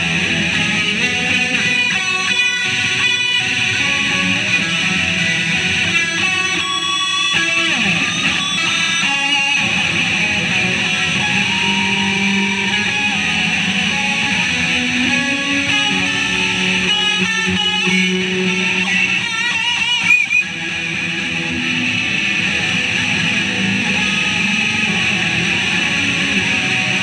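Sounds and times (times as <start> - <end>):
electric guitar with sliding notes: 0.0 - 27.0.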